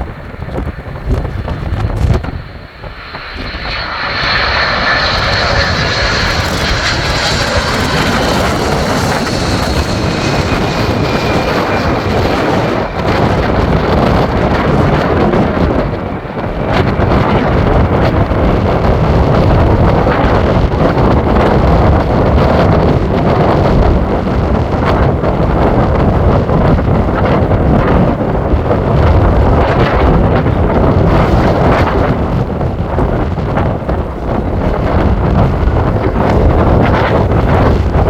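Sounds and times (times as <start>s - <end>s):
jet engines roaring overhead: 0.0s - 38.0s
wind buffeting microphone: 0.0s - 38.0s.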